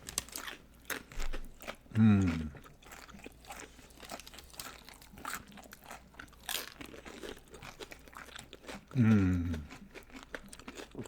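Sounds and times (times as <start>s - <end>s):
crunching chips: 0.0s - 11.0s.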